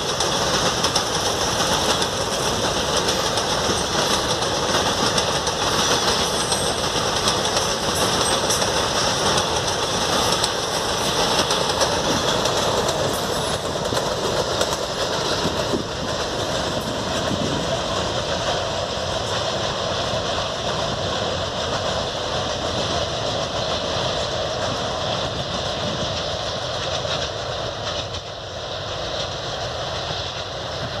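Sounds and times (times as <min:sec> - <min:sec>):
freight train rolling on rails: 0:00.0 - 0:31.0.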